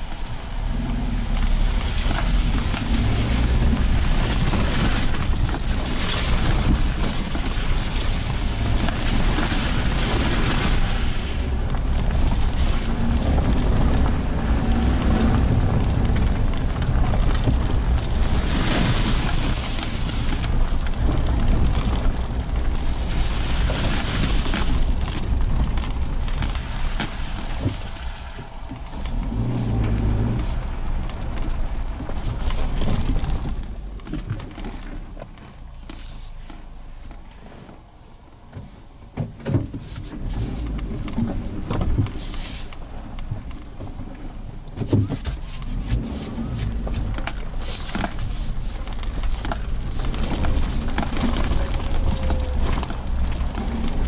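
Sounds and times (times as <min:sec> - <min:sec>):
tyres crunching over gravel: 0:00.0 - 0:37.7, 0:40.2 - 0:54.0
car engine rumbling: 0:00.0 - 0:54.0.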